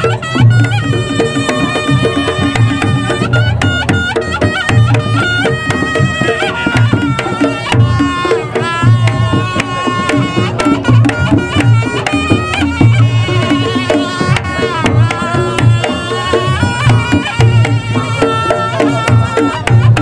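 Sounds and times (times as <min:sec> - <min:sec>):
hand drums beating rhythm: 0:00.0 - 0:20.0
reedy wind instrument melody: 0:00.0 - 0:20.0
sharp percussion strokes: 0:00.0 - 0:20.0.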